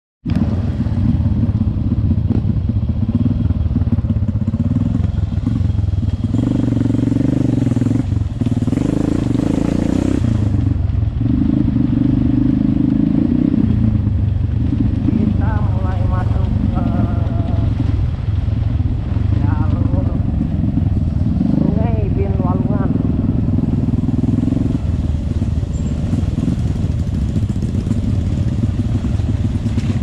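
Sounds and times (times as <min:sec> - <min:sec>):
motorcycle engine revving: 0:00.3 - 0:30.0.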